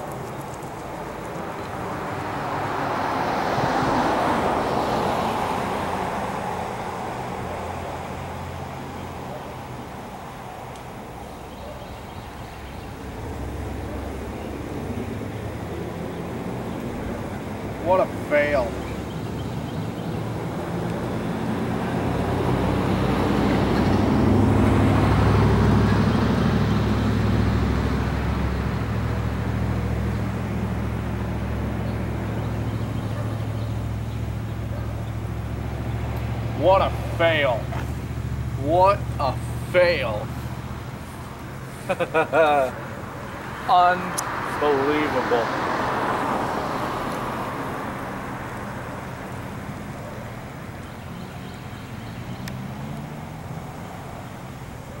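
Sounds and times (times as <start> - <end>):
traffic noise: 0.0 - 55.0
vehicle engine humming: 0.0 - 55.0
car driving past: 1.0 - 9.9, 11.5 - 55.0.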